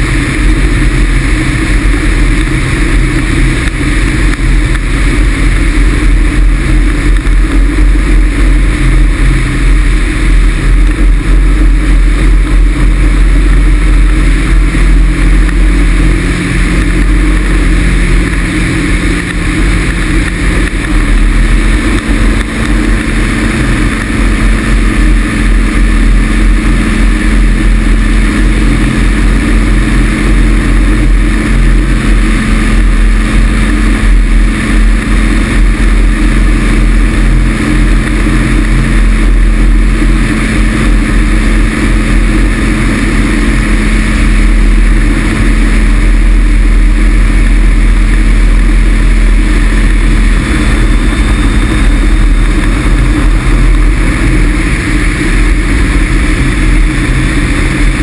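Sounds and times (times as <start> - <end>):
two-stroke engine running: 0.0 - 58.0
wind buffeting the camera: 0.0 - 58.0.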